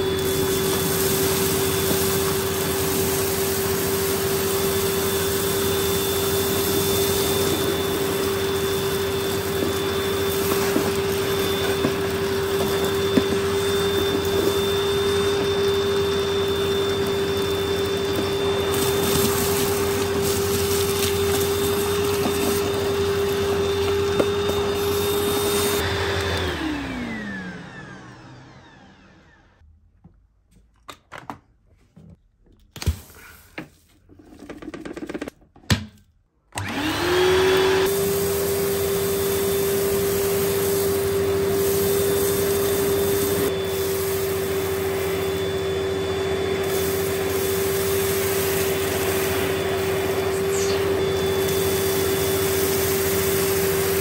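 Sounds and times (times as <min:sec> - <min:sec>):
vacuum cleaner motor whine: 0:00.0 - 0:29.6, 0:36.5 - 0:54.0.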